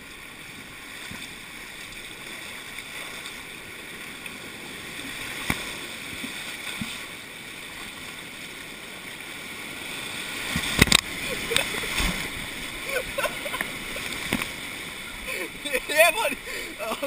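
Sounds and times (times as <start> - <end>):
river rapids rushing: 1.5 - 17.0.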